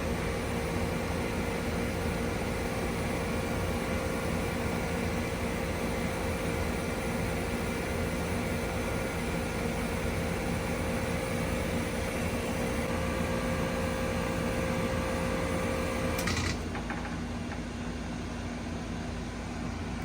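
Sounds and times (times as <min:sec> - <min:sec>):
heat pump unit humming: 0:00.0 - 0:20.0.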